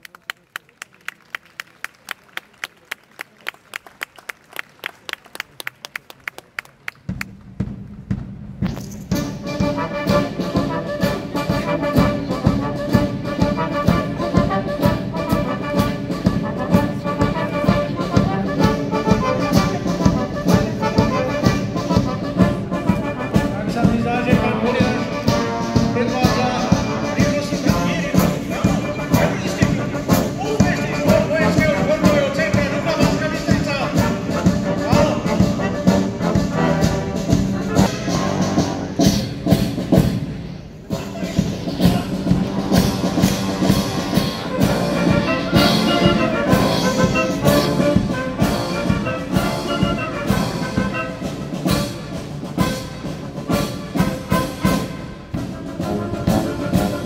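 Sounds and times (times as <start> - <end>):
brass band playing: 7.1 - 57.0.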